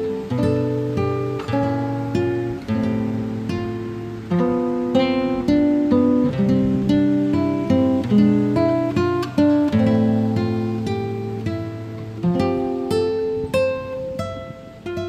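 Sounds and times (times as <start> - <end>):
acoustic guitar picking slow melody: 0.0 - 15.0.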